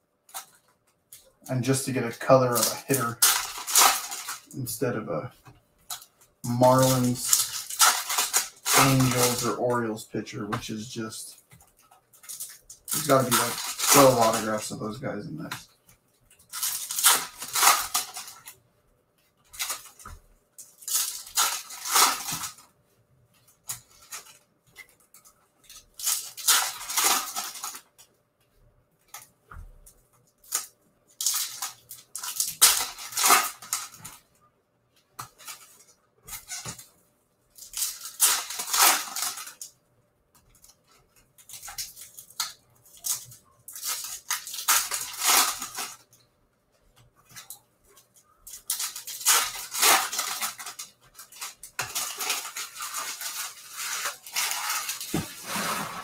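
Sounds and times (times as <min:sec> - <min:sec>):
foil wrappers crinkling: 0:00.3 - 0:05.0, 0:05.8 - 0:18.6, 0:19.4 - 0:22.7, 0:23.3 - 0:28.1, 0:29.0 - 0:34.3, 0:37.5 - 0:39.8, 0:40.5 - 0:46.2, 0:47.2 - 0:56.0.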